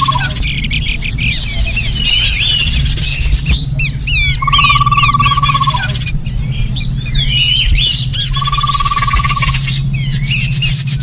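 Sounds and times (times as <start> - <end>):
bird trill: 0.0 - 11.0
low steady hum: 0.0 - 11.0
small birds twittering and chirping: 0.0 - 11.0.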